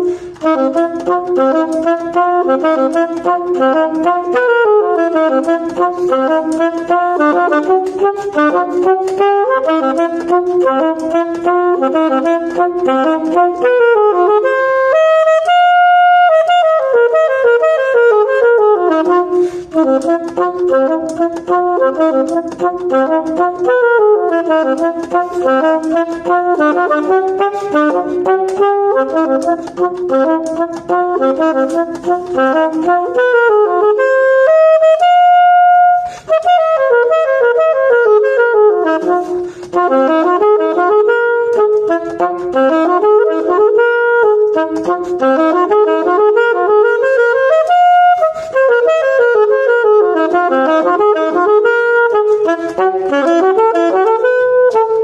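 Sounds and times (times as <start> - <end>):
solo saxophone: 0.0 - 55.0.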